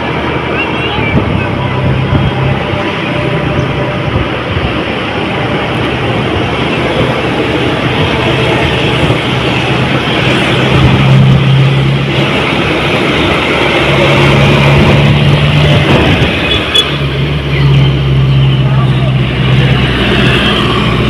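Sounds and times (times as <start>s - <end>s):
road noise: 0.0s - 21.0s
truck engine running: 0.0s - 21.0s.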